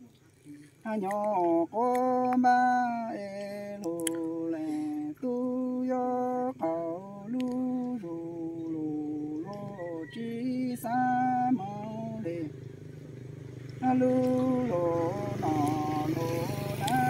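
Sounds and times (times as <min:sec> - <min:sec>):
woman singing unaccompanied: 0:00.8 - 0:12.7, 0:13.7 - 0:17.0.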